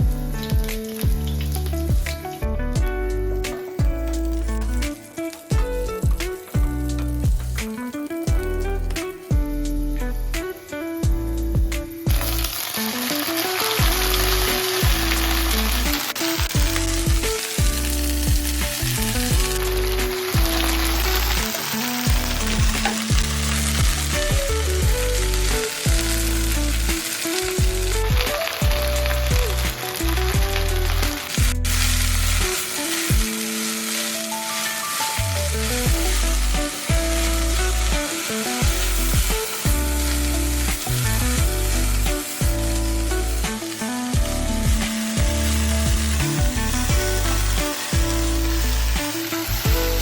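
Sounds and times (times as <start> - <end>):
background music: 0.0 - 50.0
food sizzling in a pan: 0.0 - 50.0.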